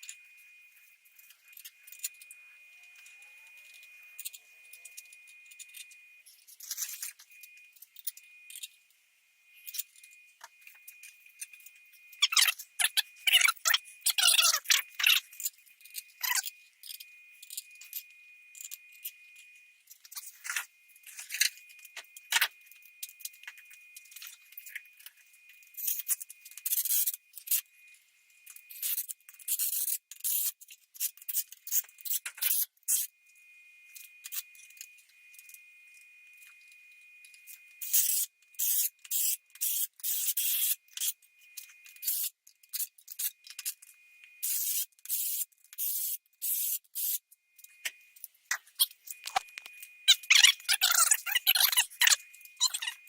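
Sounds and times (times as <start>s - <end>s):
faint high whine: 0.0s - 29.9s, 31.6s - 53.0s.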